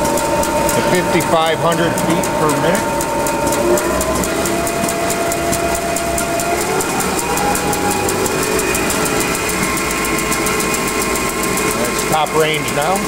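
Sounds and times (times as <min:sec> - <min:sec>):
band saw whine: 0:00.0 - 0:13.0
fast even ticking: 0:00.0 - 0:13.0.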